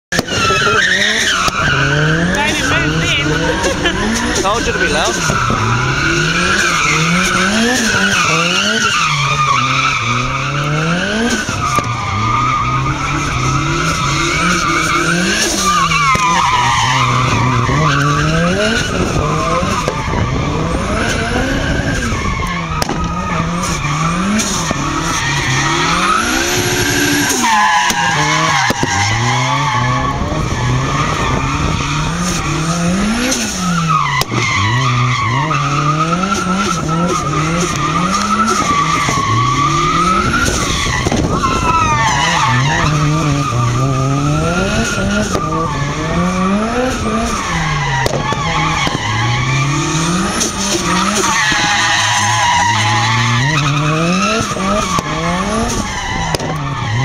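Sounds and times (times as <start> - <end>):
car engine revving hard: 0.1 - 57.0
tyres squealing on tarmac: 0.1 - 57.0.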